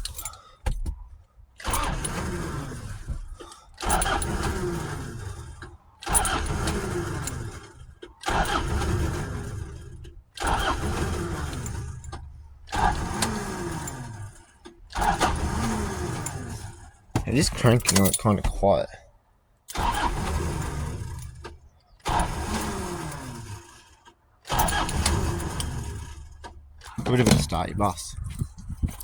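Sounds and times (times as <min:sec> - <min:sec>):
starter motor cranking diesel engine: 0:00.0 - 0:19.0, 0:19.6 - 0:29.0.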